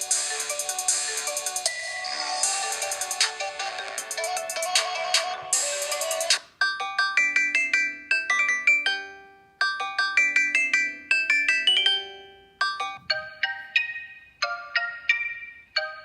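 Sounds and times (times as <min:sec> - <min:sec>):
chiming phone ringtone melody: 0:00.0 - 0:16.0
slow chiming tune: 0:00.1 - 0:16.0.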